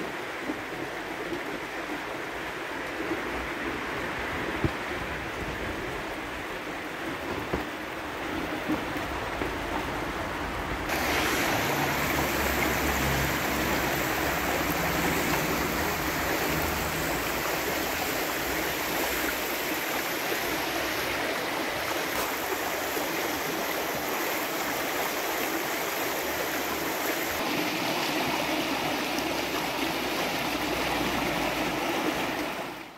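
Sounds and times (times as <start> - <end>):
waterfall rushing and splashing: 0.0 - 32.9.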